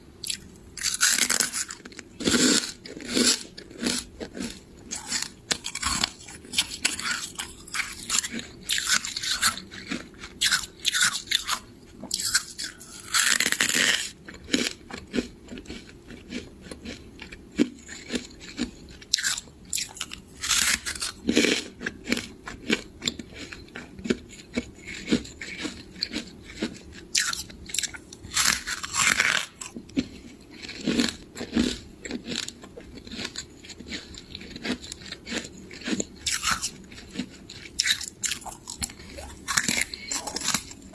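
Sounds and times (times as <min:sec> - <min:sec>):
chewing and crunching ice: 0:00.2 - 0:40.9.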